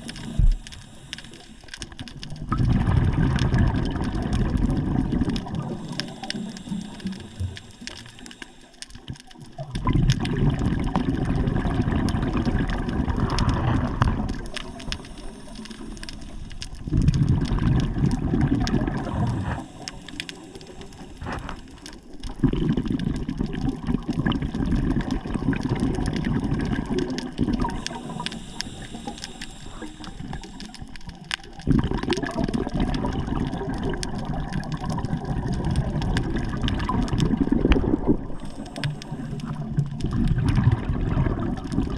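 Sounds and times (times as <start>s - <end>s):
water rushing and gurgling: 0.0s - 41.9s.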